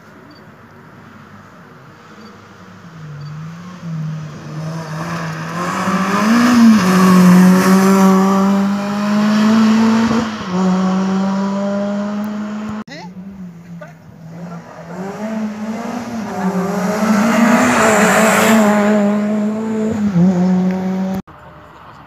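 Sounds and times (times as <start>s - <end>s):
rally car passing at high revs: 2.6s - 21.2s.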